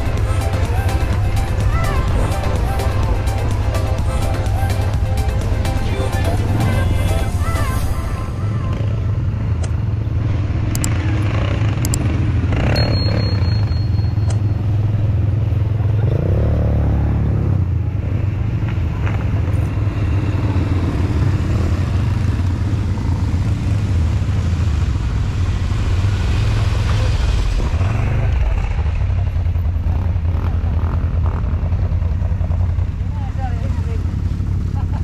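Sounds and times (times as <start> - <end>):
quad bike engines rumbling: 0.0 - 35.0.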